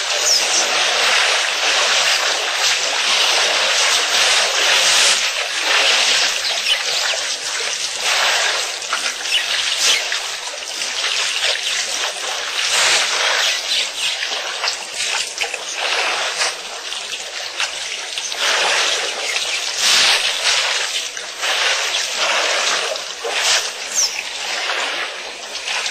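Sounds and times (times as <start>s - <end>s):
water splashing and dribbling: 0.0s - 25.9s.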